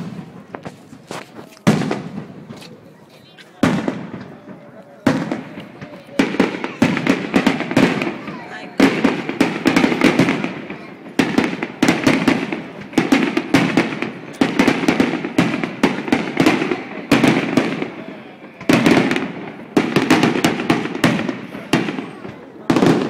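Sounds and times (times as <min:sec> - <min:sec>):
fireworks bursting with echo: 0:00.0 - 0:23.0.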